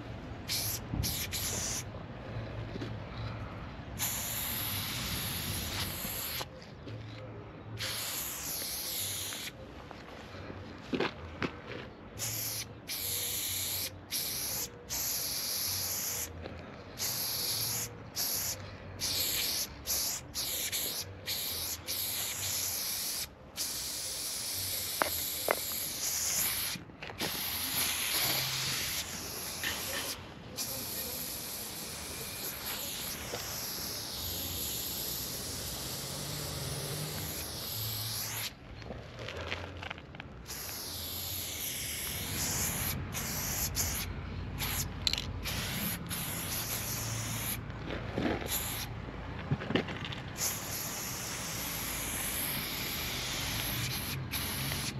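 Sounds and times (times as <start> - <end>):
spray paint can hissing: 0.4 - 1.9, 4.0 - 6.5, 7.8 - 9.6, 12.2 - 38.6, 40.4 - 47.6, 48.4 - 48.9, 50.3 - 54.9.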